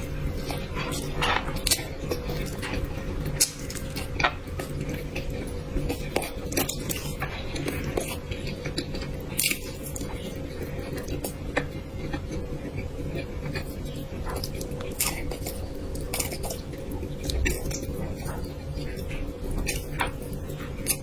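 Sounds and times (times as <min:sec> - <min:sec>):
chewing: 0:00.0 - 0:21.0
faint hum: 0:00.0 - 0:21.0.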